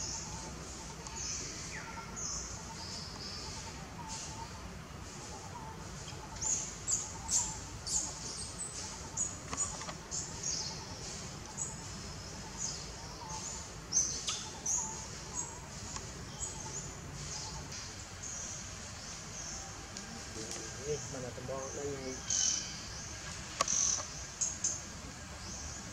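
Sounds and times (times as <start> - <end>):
outdoor background hiss: 0.0 - 25.9.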